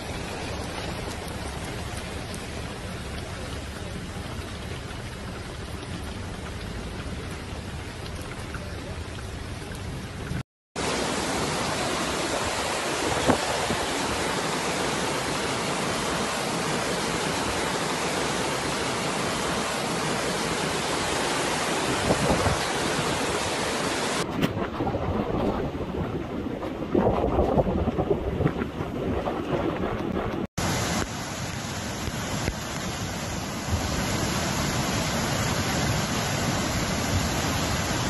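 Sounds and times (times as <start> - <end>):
heavy rain: 0.0 - 38.0
hurricane wind: 0.0 - 38.0.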